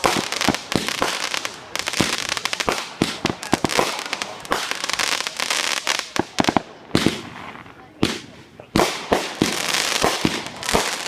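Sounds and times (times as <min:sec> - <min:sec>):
fireworks bangs and pops: 0:00.0 - 0:11.0
fireworks crackle: 0:00.0 - 0:11.0.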